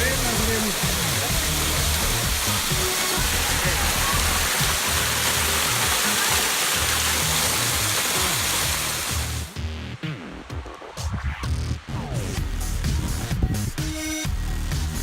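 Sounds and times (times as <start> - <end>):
music playing: 0.0 - 15.0.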